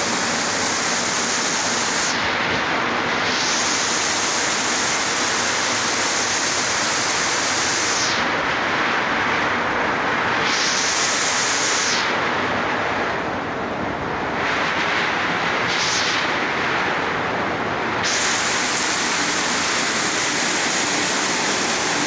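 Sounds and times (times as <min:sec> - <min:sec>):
heavy rain on a metal roof: 0:00.0 - 0:22.0.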